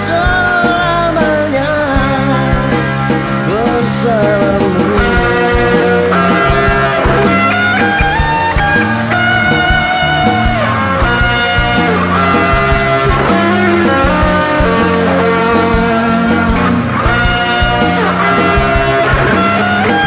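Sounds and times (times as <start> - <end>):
guitar lead with bending notes: 0.0 - 20.0
rock band backing: 0.0 - 20.0.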